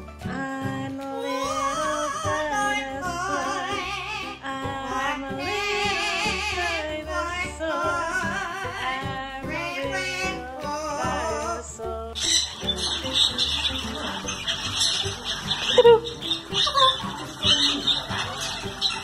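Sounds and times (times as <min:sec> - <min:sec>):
parrot singing with vibrato: 0:01.2 - 0:11.6, 0:12.2 - 0:19.0.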